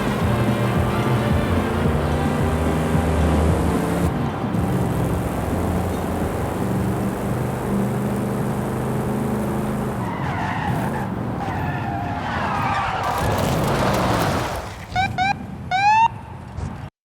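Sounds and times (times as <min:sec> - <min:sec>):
tyres squealing: 0:00.0 - 0:15.1
road noise: 0:00.0 - 0:16.9.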